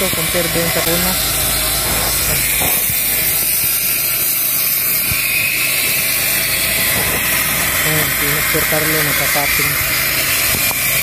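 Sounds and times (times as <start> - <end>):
machine humming and hissing: 0.0 - 11.0.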